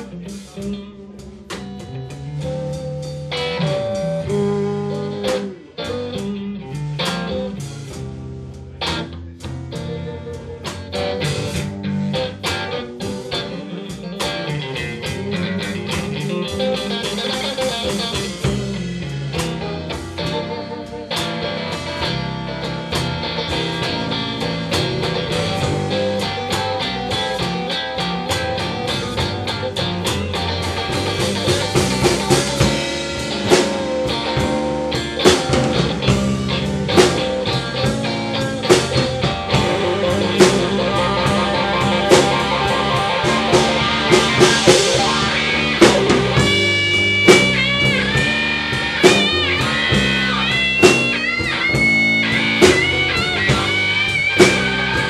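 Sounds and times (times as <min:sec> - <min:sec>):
electric guitar lead notes: 0:00.0 - 0:55.0
slow blues band playing: 0:00.0 - 0:55.0.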